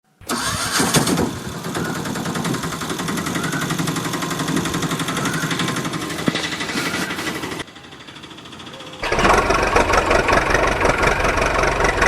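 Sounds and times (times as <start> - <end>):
toy electric motor rattling: 0.3 - 12.0.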